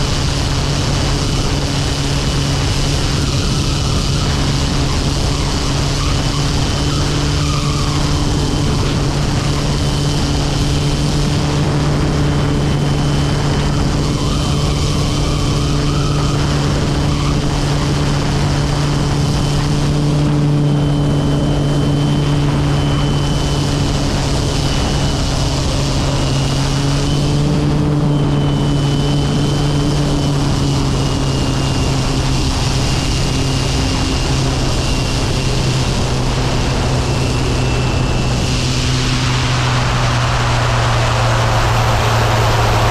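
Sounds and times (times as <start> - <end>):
high turbine whine: 0.0 - 42.9
turboprop engine drone: 0.0 - 42.9
wind rushing: 0.0 - 42.9.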